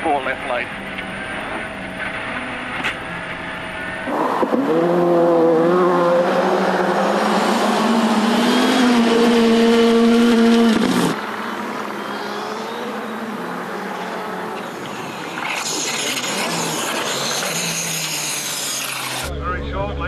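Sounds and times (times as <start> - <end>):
rally car engine at high revs: 0.7 - 19.3.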